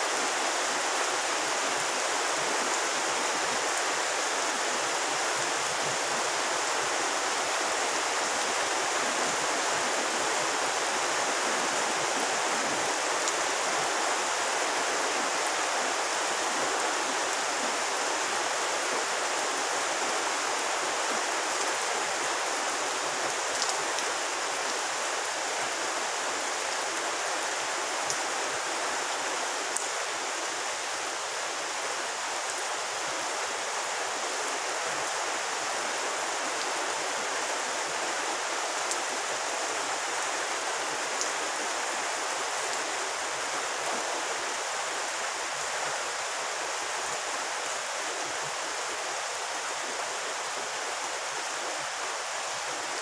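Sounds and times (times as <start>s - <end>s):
rain falling on pond: 0.0s - 53.0s.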